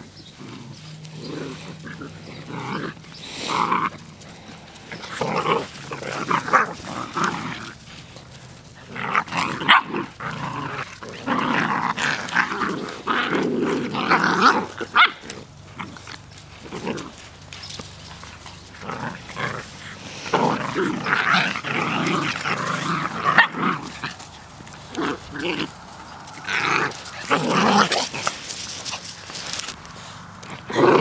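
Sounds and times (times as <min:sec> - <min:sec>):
puppies growling and yipping: 0:00.0 - 0:31.0.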